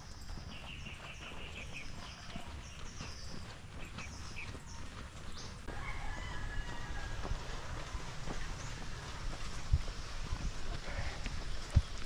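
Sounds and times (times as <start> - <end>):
footsteps on dirt trail: 0.0 - 12.0
wind rumble: 0.0 - 12.0.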